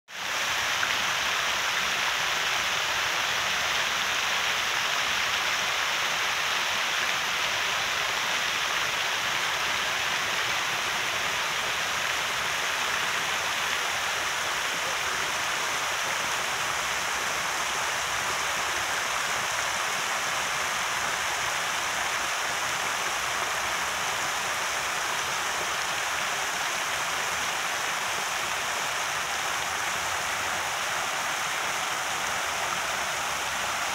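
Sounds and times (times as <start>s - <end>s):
fountain water jets splashing: 0.1s - 33.9s.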